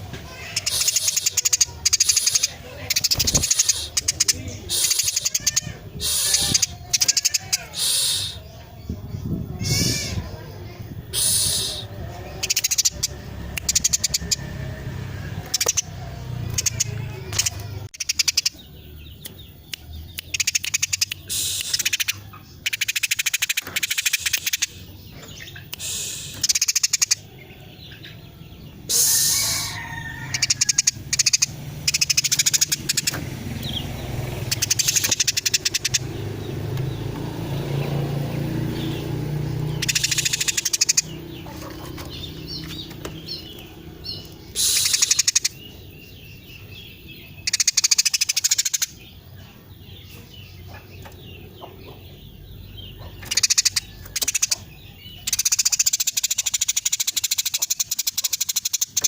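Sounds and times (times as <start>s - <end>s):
sparrow chattering: 0.0s - 14.7s, 15.3s - 28.2s, 28.8s - 59.0s.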